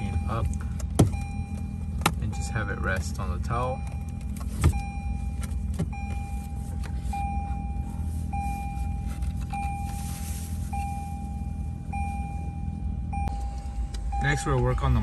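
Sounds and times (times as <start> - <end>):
dashboard warning chime beeping: 0.0 - 15.0
low car hum: 0.0 - 15.0.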